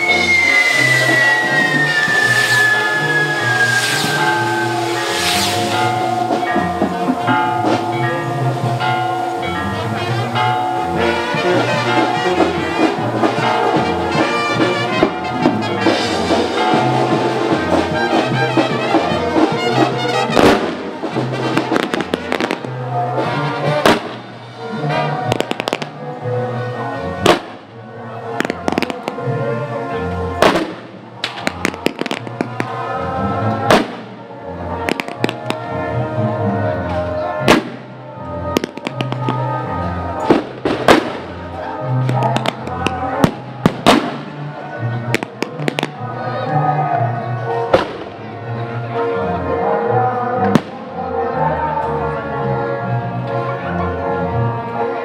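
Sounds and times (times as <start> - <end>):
firecrackers banging: 0.0 - 26.2, 27.2 - 36.1, 36.9 - 46.2, 47.6 - 48.5, 50.4 - 51.0
band music with brass: 0.0 - 55.0.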